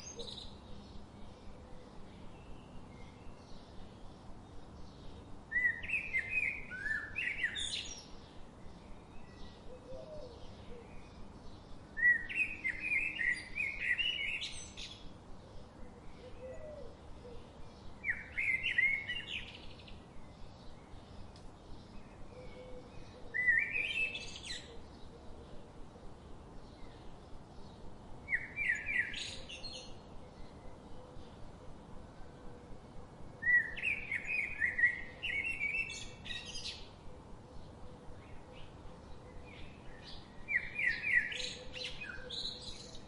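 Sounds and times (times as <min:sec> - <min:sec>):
faint bird chirps: 0:00.0 - 0:25.7, 0:33.4 - 0:43.0
songbird singing: 0:00.0 - 0:43.0.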